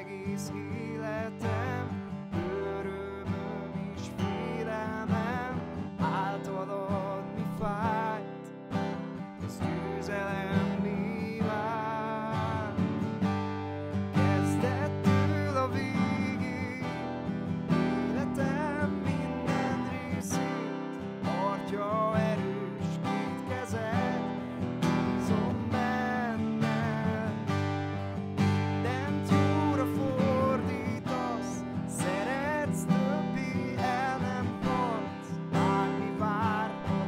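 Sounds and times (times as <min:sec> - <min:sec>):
acoustic guitar strumming: 0:00.0 - 0:37.0
man singing: 0:00.0 - 0:37.0.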